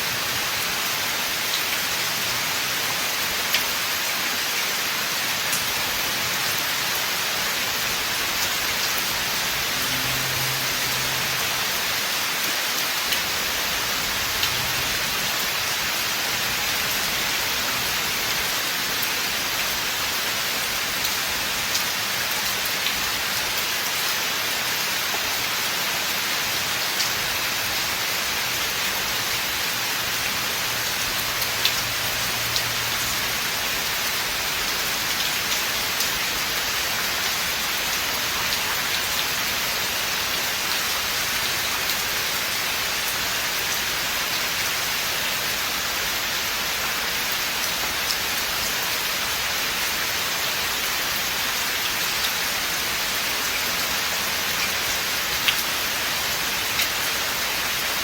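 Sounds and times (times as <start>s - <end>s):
rain falling on forest: 0.0s - 58.0s.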